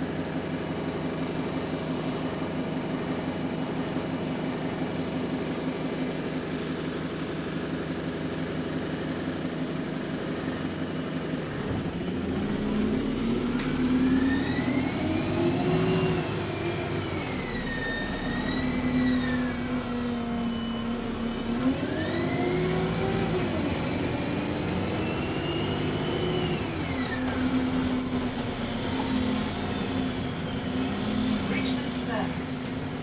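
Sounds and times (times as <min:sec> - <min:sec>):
bus engine accelerating and idling: 0:00.0 - 0:33.0
turbocharger whine: 0:00.0 - 0:33.0.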